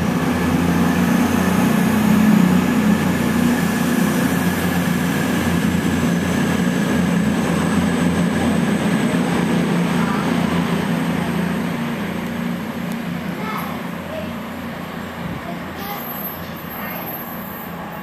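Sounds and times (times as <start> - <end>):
train diesel engines droning: 0.0 - 18.0.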